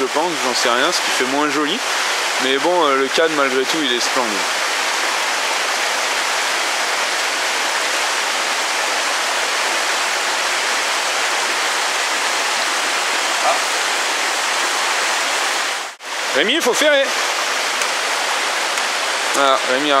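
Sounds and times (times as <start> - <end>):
waterfall splashing into pool: 0.0 - 20.0.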